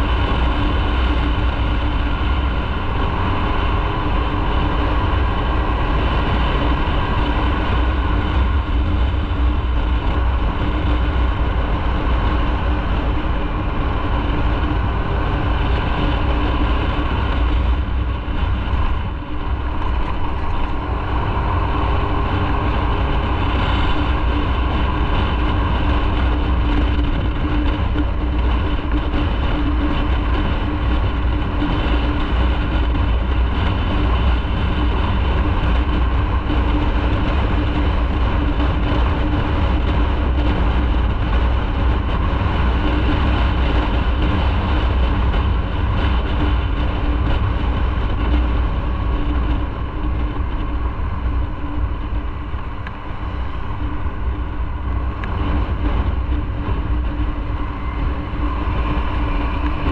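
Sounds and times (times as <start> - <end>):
motorcycle engine drone: 0.0 - 59.9
road and wind noise: 0.0 - 59.9.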